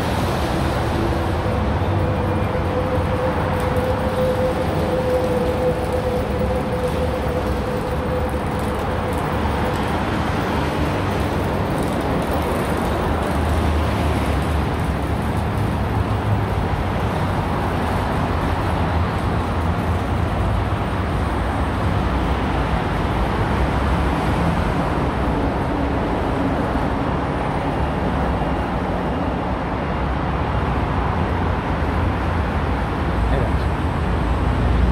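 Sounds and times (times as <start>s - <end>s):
train rumbling to a stop: 0.0s - 34.9s.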